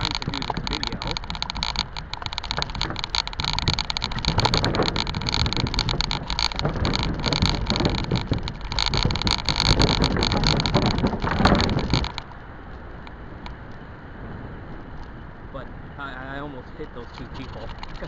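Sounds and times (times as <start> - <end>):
bike rattles and knocks: 0.0 - 13.6, 16.8 - 18.0
wind rushing over microphone: 0.0 - 18.0.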